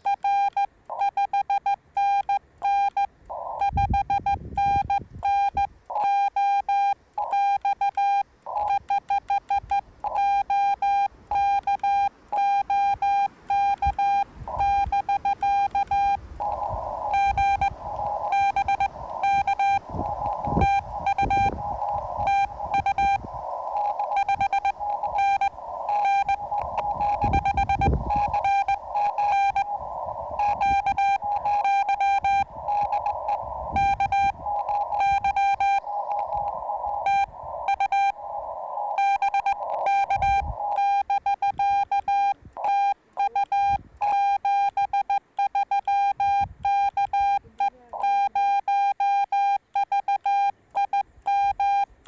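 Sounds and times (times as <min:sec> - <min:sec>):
morse code tone: 0:00.0 - 0:52.0
receiver hiss: 0:00.0 - 0:52.0.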